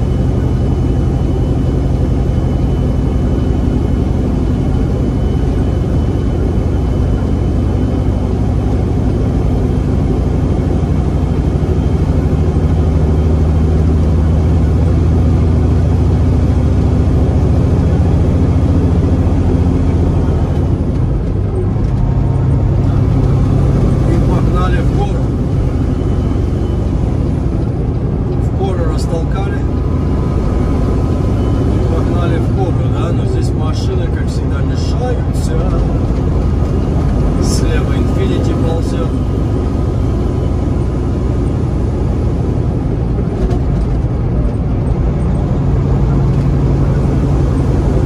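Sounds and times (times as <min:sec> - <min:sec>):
diesel truck engine drone: 0:00.0 - 0:48.0.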